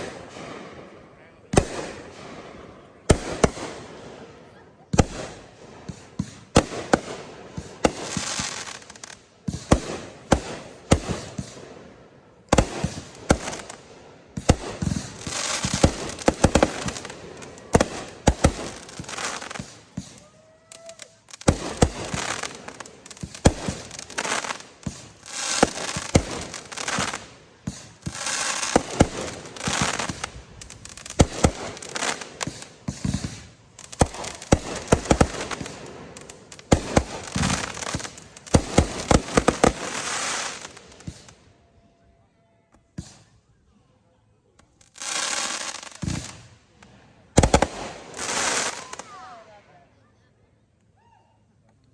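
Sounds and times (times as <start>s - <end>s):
fireworks bursting: 0.0s - 41.6s, 42.9s - 43.4s, 44.6s - 49.5s
fireworks crackling: 0.0s - 41.6s, 42.9s - 43.4s, 44.6s - 49.7s.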